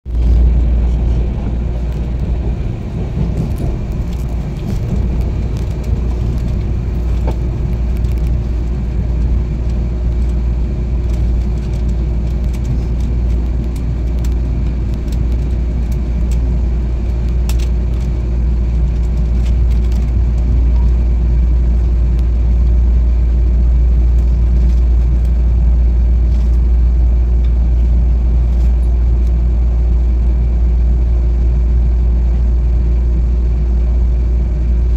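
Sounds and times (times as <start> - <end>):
train rumbling: 0.1 - 34.9.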